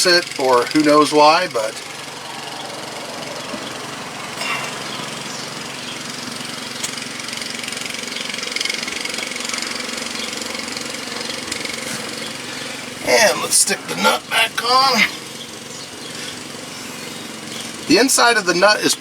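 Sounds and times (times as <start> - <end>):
machine humming: 0.2 - 18.8.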